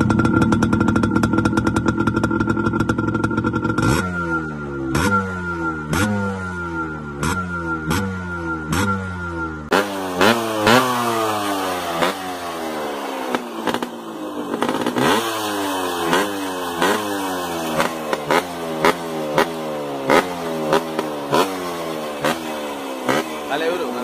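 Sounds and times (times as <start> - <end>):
exhaust cracks: 0.0 - 6.2, 9.7 - 24.0
dirt bike engine revving: 0.0 - 24.0.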